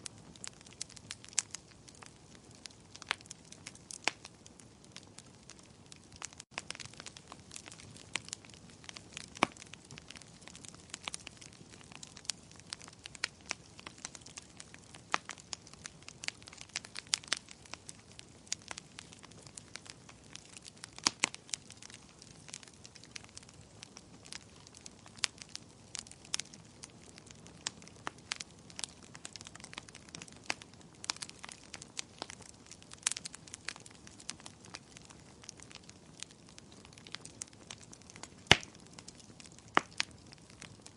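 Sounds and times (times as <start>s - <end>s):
fire crackling and popping: 0.0s - 40.9s
soft steady hiss: 0.0s - 40.9s.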